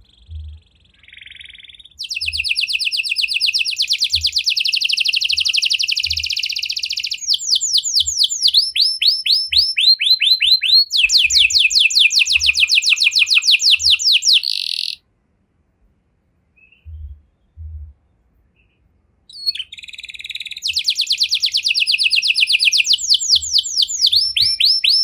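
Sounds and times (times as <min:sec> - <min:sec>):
canary singing trills: 0:00.0 - 0:15.0, 0:18.6 - 0:25.0.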